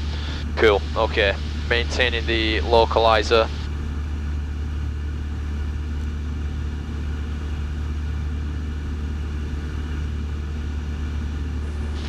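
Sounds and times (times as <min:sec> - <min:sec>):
airplane engine drone in cockpit: 0:00.0 - 0:12.0.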